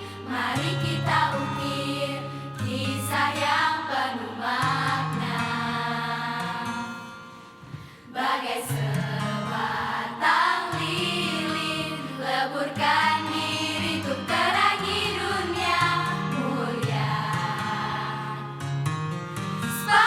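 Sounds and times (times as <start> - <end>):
voices singing together: 0.0 - 7.1, 8.0 - 18.6, 19.7 - 20.0.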